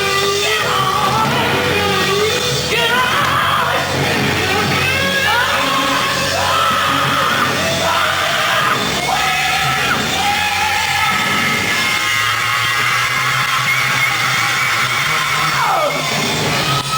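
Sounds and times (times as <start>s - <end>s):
loud rock band: 0.0s - 16.9s
male singer belting: 0.0s - 16.9s.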